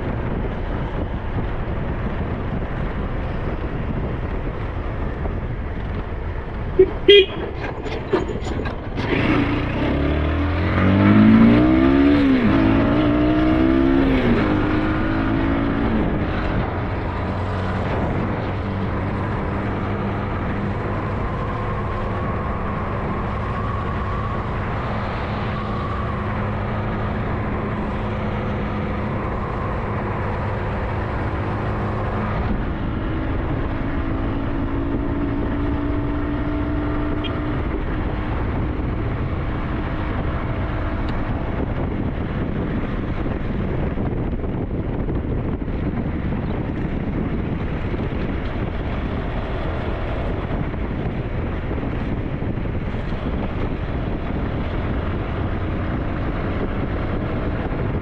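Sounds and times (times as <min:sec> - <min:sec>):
road and wind noise: 0:00.0 - 0:58.0
motorcycle engine accelerating: 0:00.3 - 0:58.0.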